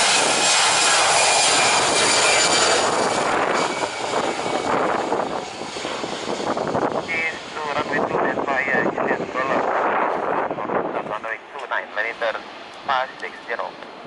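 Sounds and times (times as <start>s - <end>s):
jet engines at takeoff: 0.0s - 14.0s.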